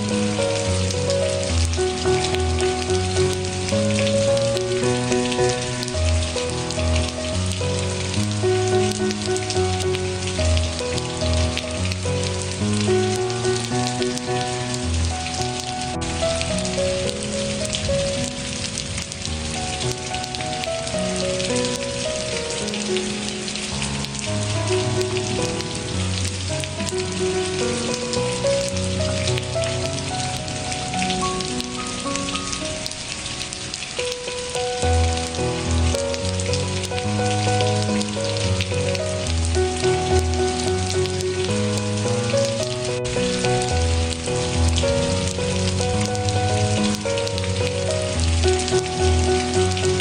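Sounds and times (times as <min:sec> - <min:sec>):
soft slow music: 0:00.0 - 0:50.0
steady rain patter: 0:00.0 - 0:50.0.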